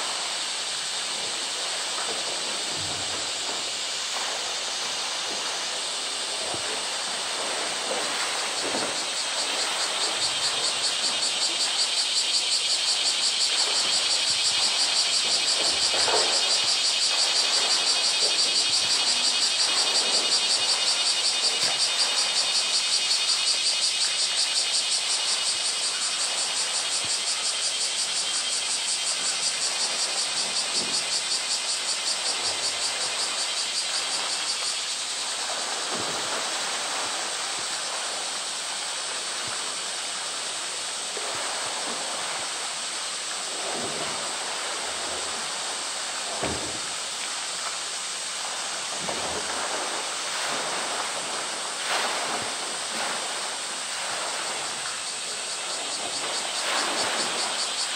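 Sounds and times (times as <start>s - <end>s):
water splashing: 0.0s - 23.0s, 29.1s - 57.9s.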